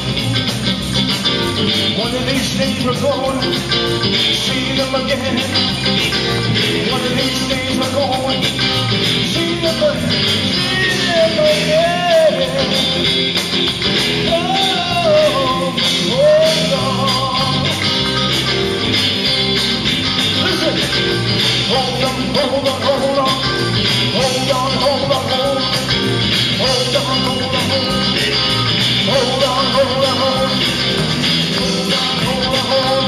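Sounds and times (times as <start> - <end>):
electric guitar: 0.0 - 33.0.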